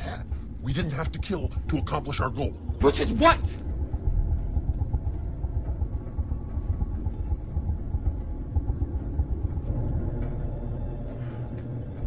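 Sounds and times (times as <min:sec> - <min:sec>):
low steady soundtrack drone: 0:00.0 - 0:12.0.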